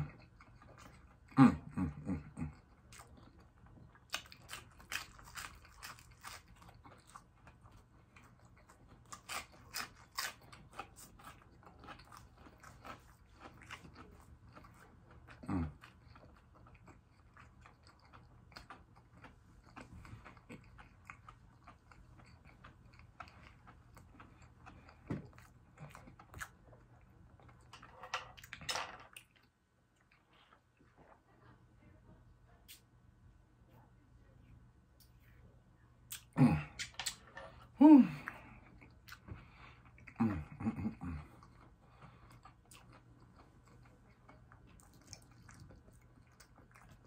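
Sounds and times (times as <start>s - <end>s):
crunching and chewing fried shrimp: 0.0s - 31.2s, 36.1s - 47.0s.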